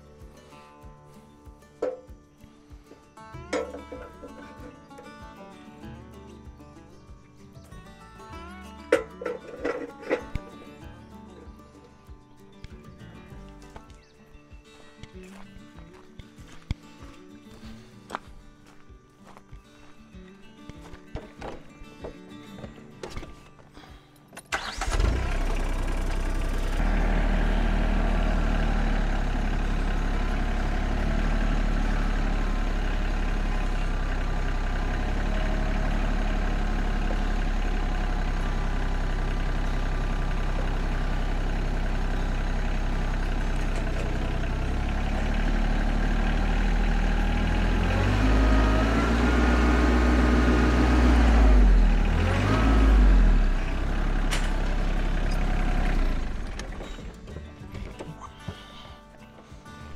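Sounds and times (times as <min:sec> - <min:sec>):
tractor diesel engine running: 0:00.0 - 0:14.1, 0:21.1 - 0:59.9.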